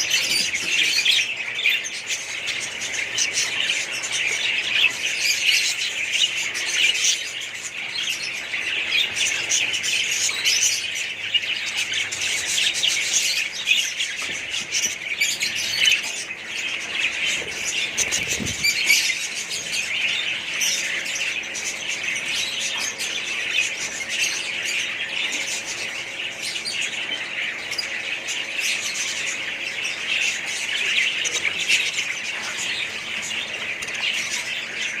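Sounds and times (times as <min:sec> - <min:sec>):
parrots chattering and squawking: 0:00.0 - 0:35.0.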